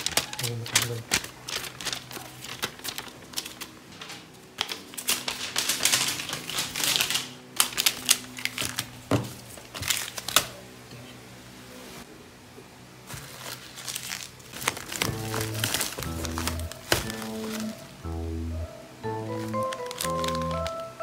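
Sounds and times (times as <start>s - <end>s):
plastic wrap crinkling: 0.0s - 10.6s, 13.0s - 18.0s, 19.2s - 21.0s.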